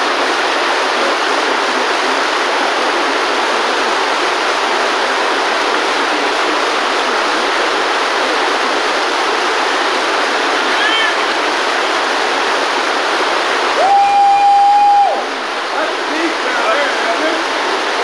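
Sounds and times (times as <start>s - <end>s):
waterfall whitewater rushing: 0.0s - 18.0s.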